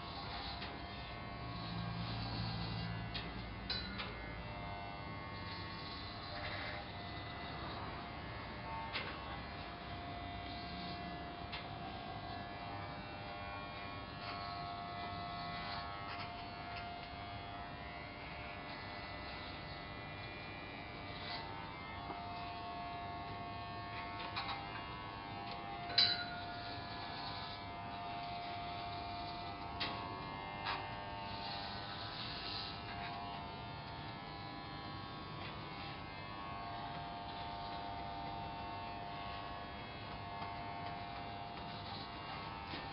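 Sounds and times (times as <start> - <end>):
electric hair clippers buzzing: 0.0 - 42.9.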